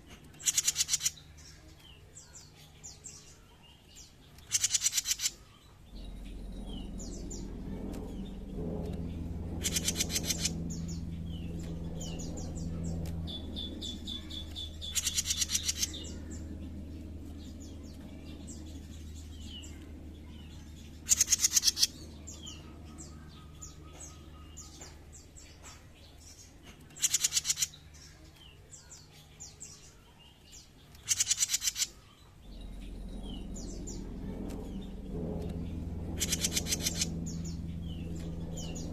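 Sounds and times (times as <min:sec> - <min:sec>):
steady low hum: 0:00.0 - 0:38.9
songbird trilling and chirping: 0:00.2 - 0:38.9.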